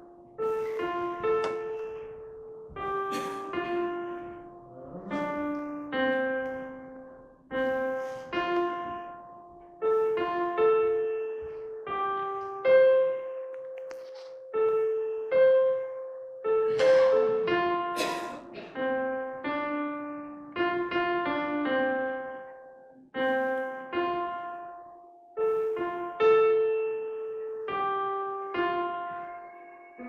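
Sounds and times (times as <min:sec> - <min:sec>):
slow solo piano: 0:00.0 - 0:30.0.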